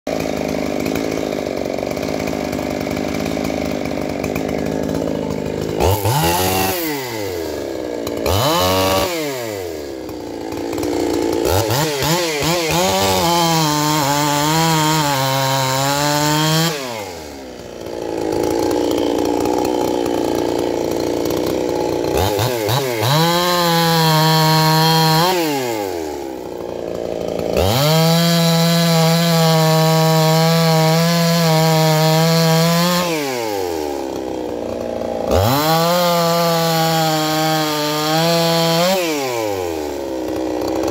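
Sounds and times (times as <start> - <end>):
chainsaw cutting through log: 0.1 - 40.9
chainsaw revving and idling: 0.1 - 40.9.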